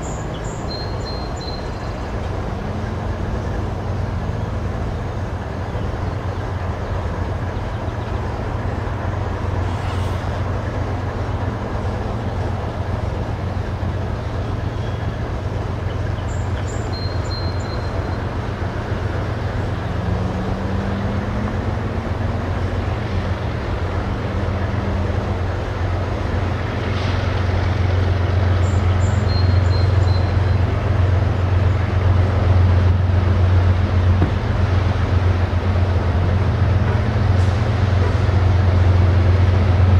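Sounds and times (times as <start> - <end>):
locomotive engine drone: 0.0 - 39.9.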